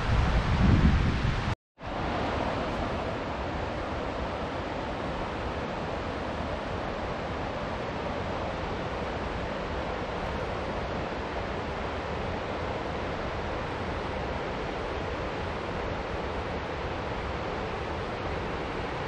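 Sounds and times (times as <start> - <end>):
water rushing over rocks: 1.8 - 19.0.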